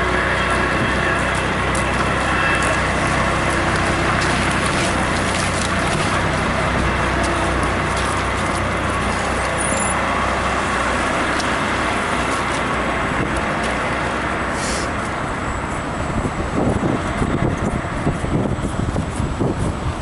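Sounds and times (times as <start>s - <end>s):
low steady rumble: 0.0s - 20.0s
traffic and road noise: 0.0s - 20.0s.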